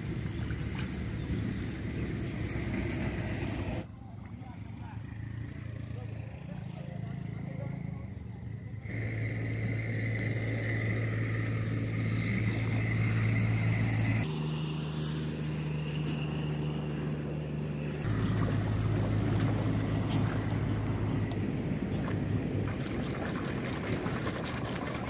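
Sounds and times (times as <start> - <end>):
low motor-like drone: 0.0 - 25.0.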